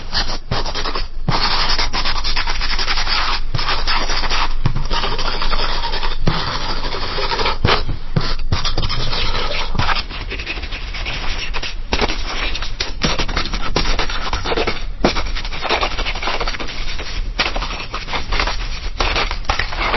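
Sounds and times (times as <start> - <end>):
pencil writing on paper: 0.0 - 19.9.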